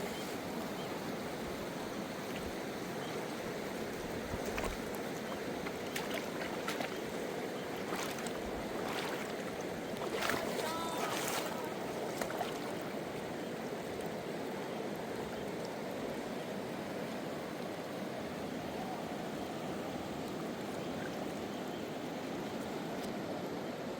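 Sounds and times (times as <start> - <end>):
river water rushing: 0.0 - 23.8.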